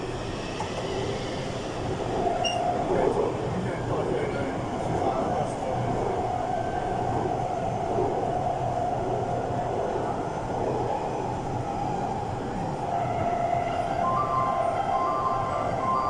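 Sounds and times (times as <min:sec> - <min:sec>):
subway train rumble and hiss: 0:00.0 - 0:16.0.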